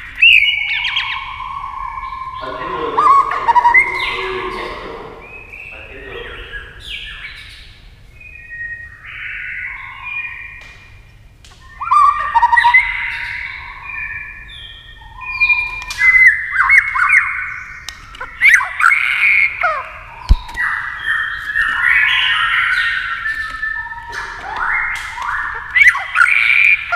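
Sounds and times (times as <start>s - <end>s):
bird singing whistled phrases: 0.0s - 7.5s, 11.6s - 26.9s.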